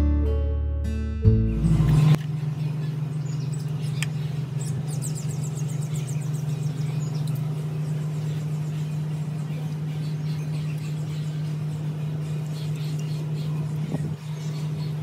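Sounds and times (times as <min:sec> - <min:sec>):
bird chirping: 0:01.5 - 0:15.0.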